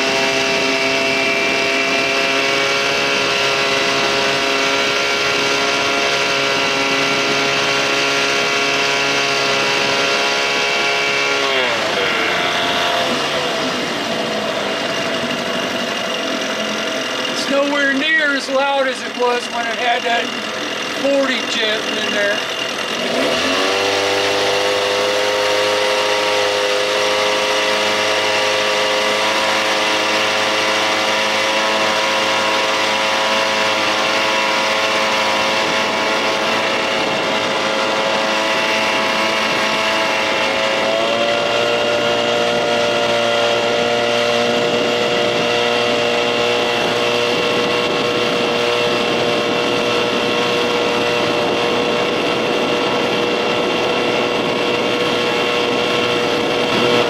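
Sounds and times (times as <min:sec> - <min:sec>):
outboard motor at high revs: 0:00.0 - 0:57.0.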